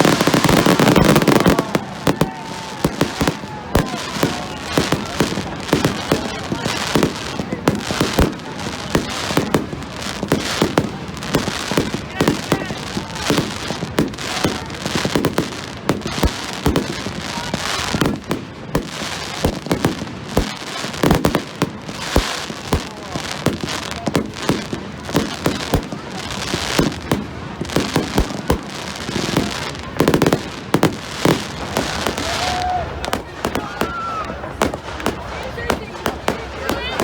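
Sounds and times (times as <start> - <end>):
fireworks bangs and crackling pops: 0.0 - 37.0.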